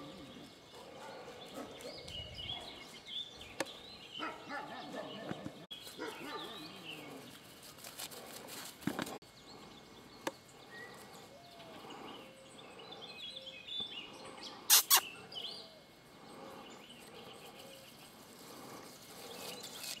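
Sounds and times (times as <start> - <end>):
higher bird chirping: 0.0 - 7.6, 9.2 - 20.0
birds calling: 0.0 - 20.0.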